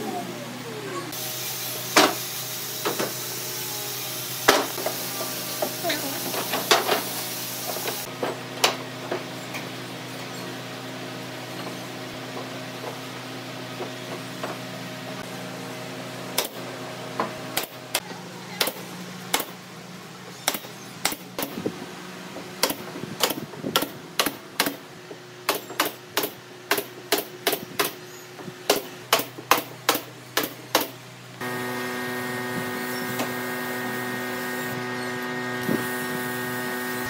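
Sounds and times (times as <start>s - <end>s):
workshop hum: 0.0s - 37.0s.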